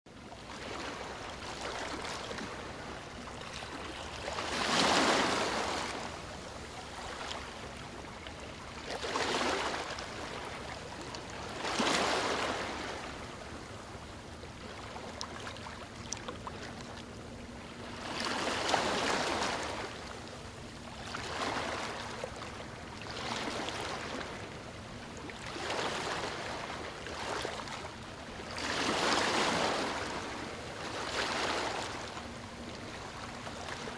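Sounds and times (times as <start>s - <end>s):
ocean waves breaking: 0.4s - 33.9s.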